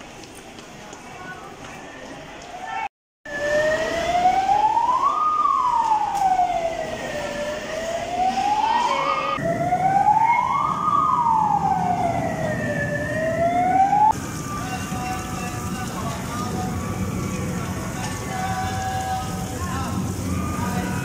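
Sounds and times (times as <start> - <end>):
fire engine siren wailing: 3.3 - 21.0.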